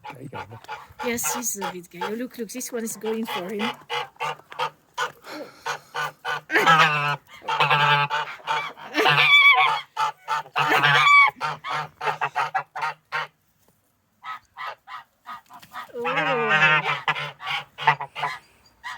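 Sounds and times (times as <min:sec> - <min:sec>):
geese honking: 0:00.0 - 0:13.3, 0:14.2 - 0:18.9.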